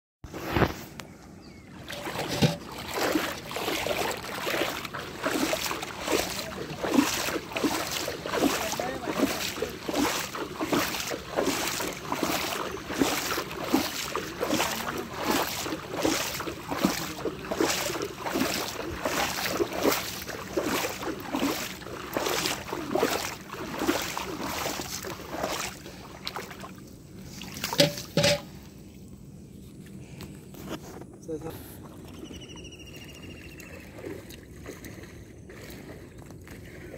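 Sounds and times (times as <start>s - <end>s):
water sloshing and splashing: 0.3s - 36.9s.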